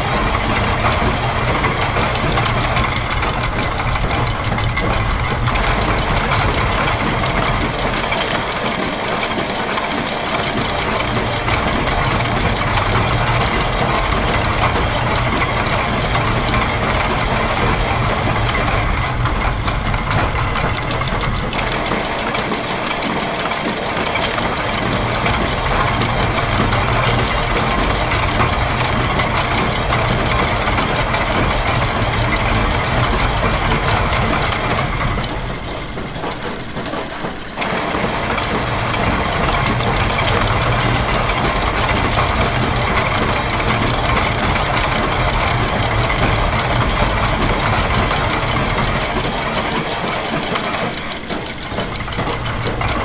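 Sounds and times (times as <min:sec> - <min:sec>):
gears and ratchets clattering: 0:00.0 - 0:53.0
high mechanical ticking: 0:00.0 - 0:53.0
low machinery rumble: 0:00.0 - 0:53.0
machine press: 0:00.0 - 0:53.0
sewing machine: 0:00.0 - 0:53.0.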